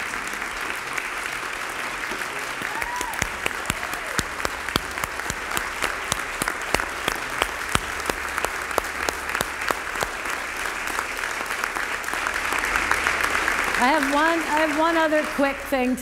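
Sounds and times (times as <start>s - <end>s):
sharp claps close to microphone: 0.0s - 15.7s
audience applauding: 0.0s - 16.0s.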